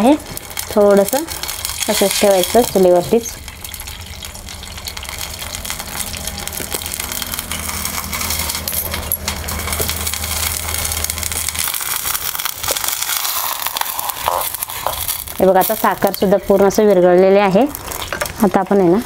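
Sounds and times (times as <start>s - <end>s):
water bubbling in pot: 0.0s - 17.0s
steady low hum: 0.0s - 18.4s
burning wood crackling: 0.0s - 19.0s.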